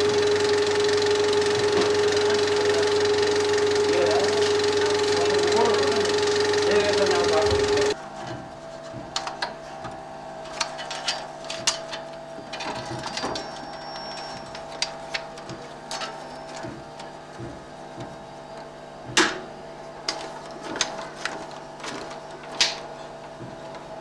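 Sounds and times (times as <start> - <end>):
film projector running: 0.0 - 24.0.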